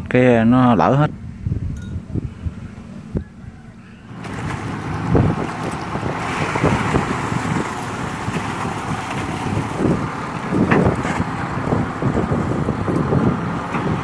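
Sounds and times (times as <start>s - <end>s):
wind buffeting microphone: 0.7s - 14.0s
excavator diesel engine running: 2.6s - 14.0s.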